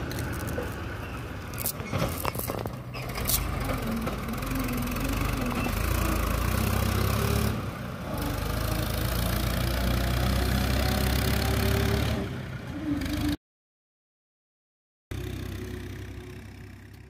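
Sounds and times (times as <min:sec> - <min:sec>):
engine running with low hum: 0:00.0 - 0:13.4, 0:15.1 - 0:17.0.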